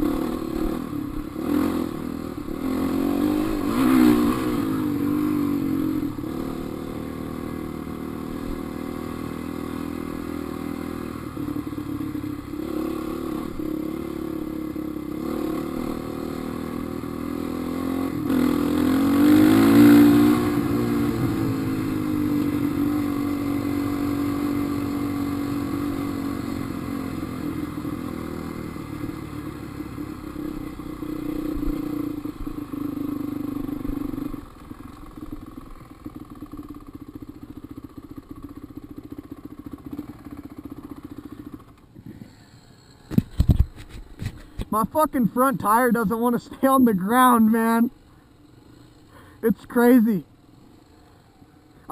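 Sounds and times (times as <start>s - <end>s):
dirt bike engine revving: 0.0s - 35.4s, 44.0s - 51.9s.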